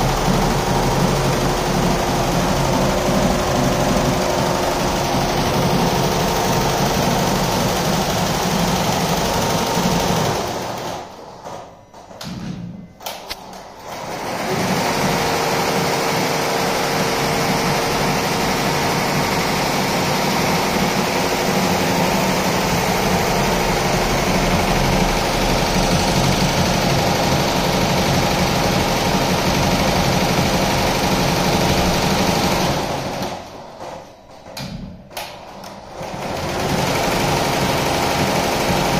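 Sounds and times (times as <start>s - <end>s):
embroidery machine stitching: 0.0s - 11.6s, 13.0s - 34.0s, 35.2s - 38.9s.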